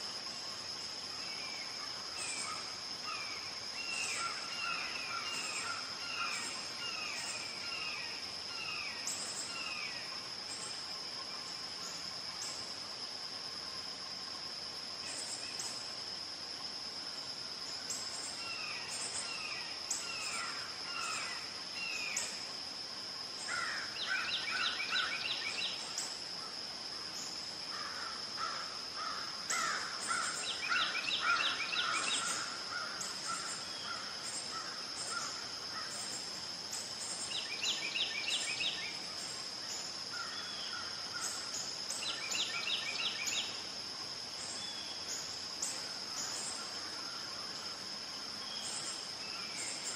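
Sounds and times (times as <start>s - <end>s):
high insect drone: 0.0s - 49.9s.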